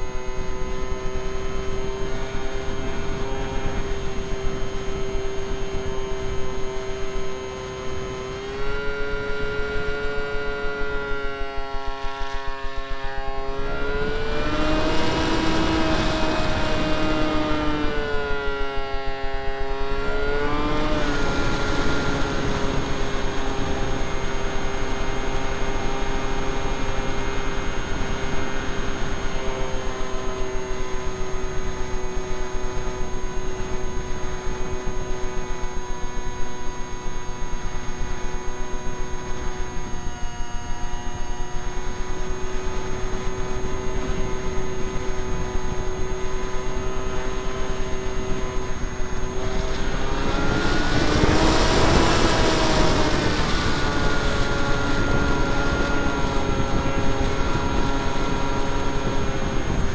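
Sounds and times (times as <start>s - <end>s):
electric motor whine: 0.0s - 59.9s
rush of wind: 0.0s - 59.9s.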